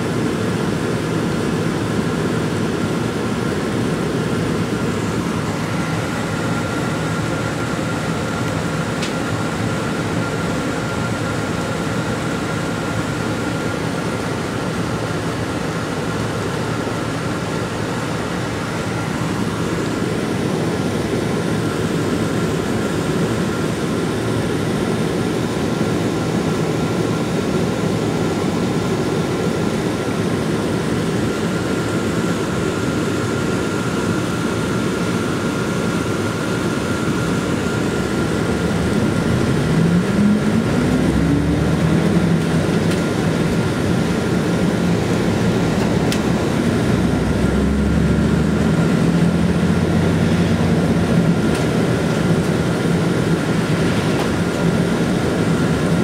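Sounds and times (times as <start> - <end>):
bus engine hum: 0.0 - 33.2, 37.0 - 56.0.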